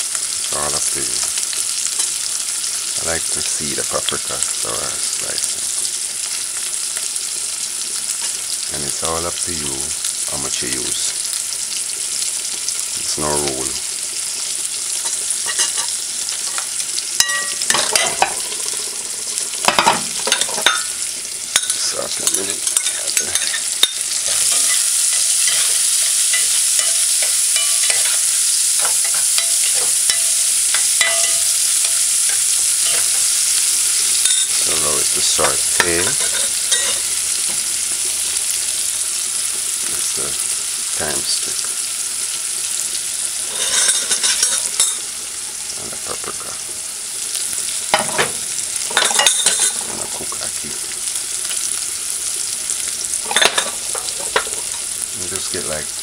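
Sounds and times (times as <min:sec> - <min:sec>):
vegetables sizzling in hot oil: 0:00.0 - 0:56.0.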